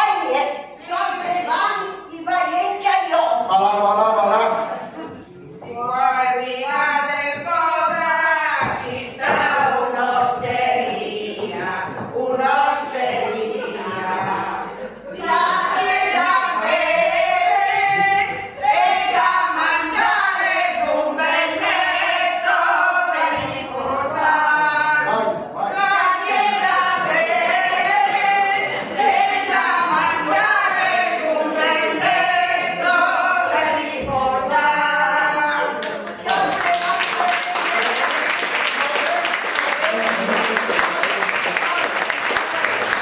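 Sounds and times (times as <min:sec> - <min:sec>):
group singing unaccompanied: 0:00.0 - 0:38.0.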